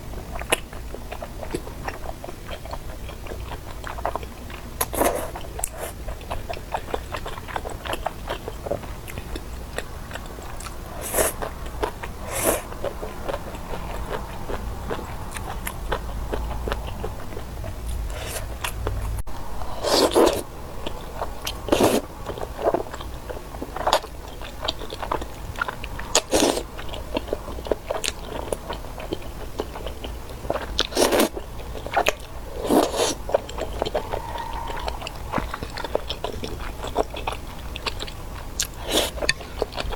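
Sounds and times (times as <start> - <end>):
chewing with wet mouth smacks: 0.1 - 39.9.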